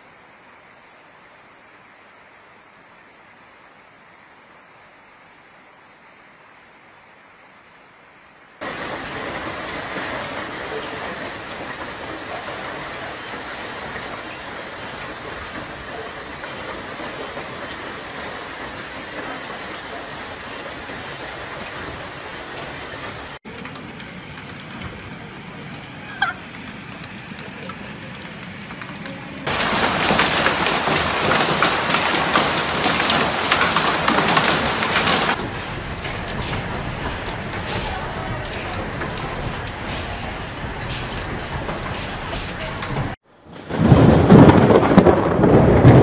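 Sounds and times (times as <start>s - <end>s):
heavy rain downpour: 0.0s - 46.0s.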